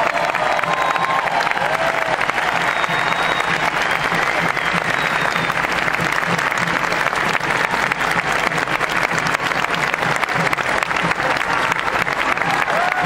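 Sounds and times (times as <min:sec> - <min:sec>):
large crowd applauding: 0:00.0 - 0:13.0.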